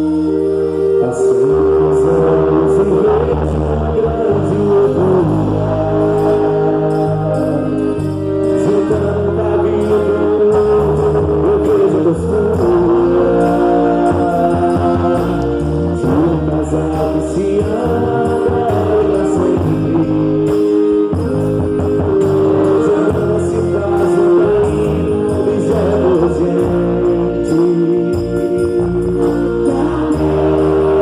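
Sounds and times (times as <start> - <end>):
guitar: 0.0 - 31.0
person singing: 0.0 - 31.0.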